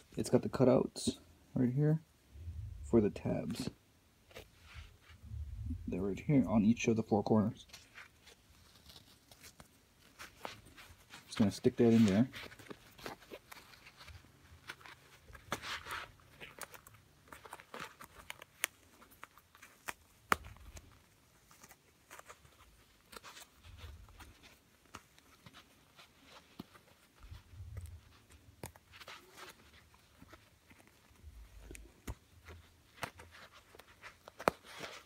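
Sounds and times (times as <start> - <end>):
ear pad rustling: 0.0 - 35.0.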